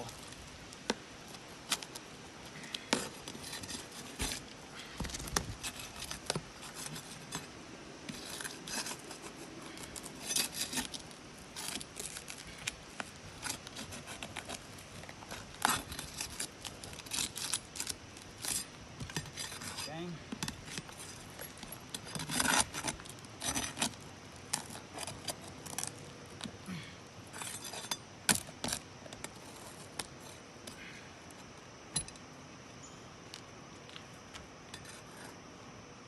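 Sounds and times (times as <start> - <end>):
shingles crackling and scraping: 0.0 - 32.2, 33.3 - 35.5.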